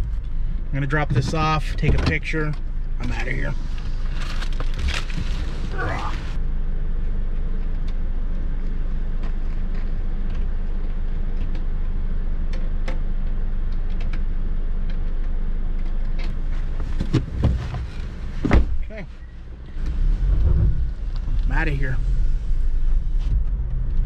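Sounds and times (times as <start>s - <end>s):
car cabin low rumble: 0.0s - 24.0s.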